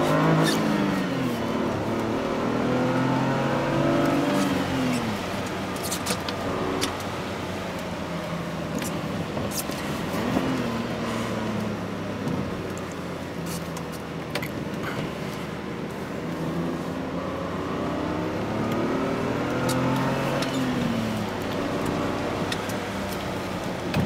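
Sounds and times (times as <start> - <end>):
car engine accelerating: 0.0 - 24.0
tyre and road noise: 0.0 - 24.0.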